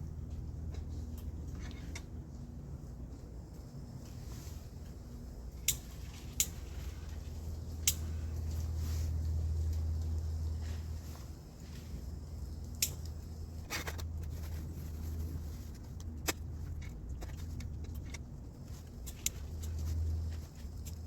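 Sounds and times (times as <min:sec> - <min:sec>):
steady low rumble: 0:00.0 - 0:21.0
light clicks and taps: 0:00.2 - 0:02.4, 0:03.0 - 0:21.0.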